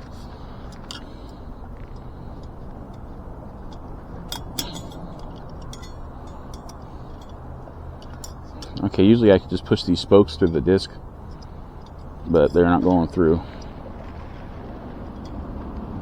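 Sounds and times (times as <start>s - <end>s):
light metallic clicks of bicycle spokes: 0.0s - 13.8s
steady low hum: 0.0s - 16.0s.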